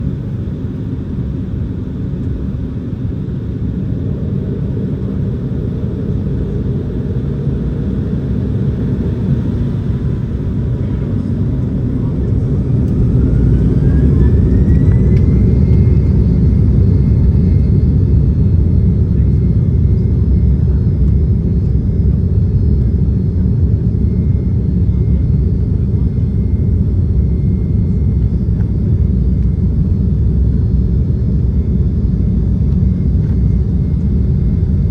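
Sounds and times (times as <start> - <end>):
jet engine rumble: 0.0 - 34.9
rising engine whine: 0.0 - 34.9.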